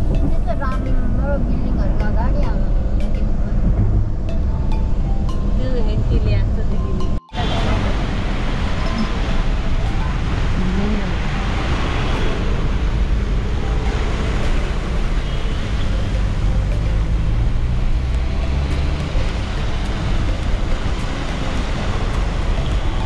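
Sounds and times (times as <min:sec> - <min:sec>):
car road noise from inside: 0:00.0 - 0:23.0.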